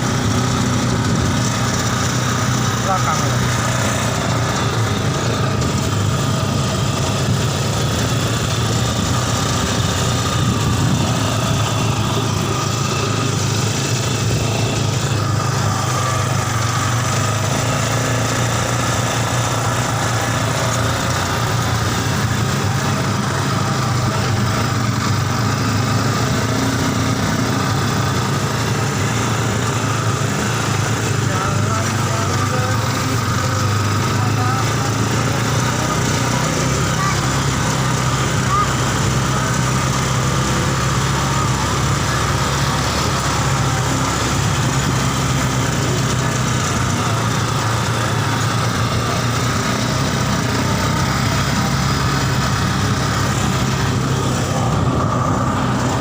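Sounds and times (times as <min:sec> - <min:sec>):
buggy engine running steadily: 0:00.0 - 0:56.0.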